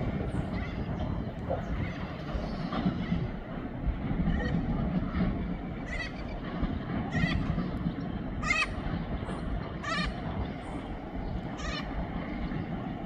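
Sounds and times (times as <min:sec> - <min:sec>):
freight train wagons rumbling: 0:00.0 - 0:13.0.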